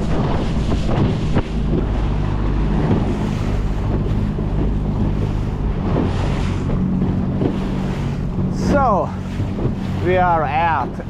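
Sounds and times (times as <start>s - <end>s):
outboard motor running: 0.0s - 11.0s
water splashing along hull: 0.0s - 11.0s
wind buffeting microphone: 0.0s - 11.0s.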